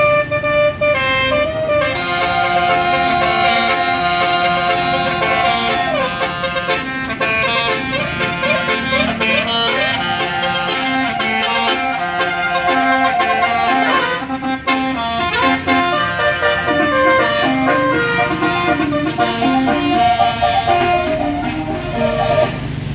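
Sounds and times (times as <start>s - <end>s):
musical air horn tune: 0.0s - 22.8s.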